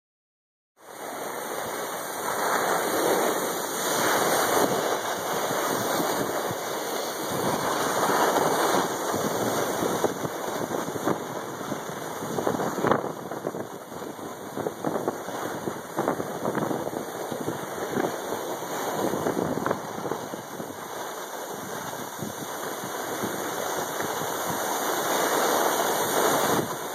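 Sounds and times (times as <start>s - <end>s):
skis sliding on packed snow: 0.8s - 26.9s
wind on microphone: 0.9s - 26.9s.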